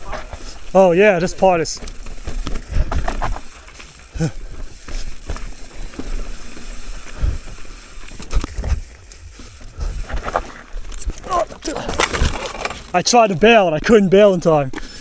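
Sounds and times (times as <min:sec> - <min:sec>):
mountain bike rattling on rocky trail: 0:00.0 - 0:15.0.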